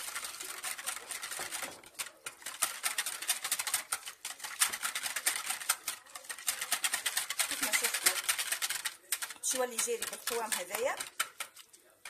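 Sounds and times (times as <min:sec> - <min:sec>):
whisk clicking against bowl: 0:00.0 - 0:12.0.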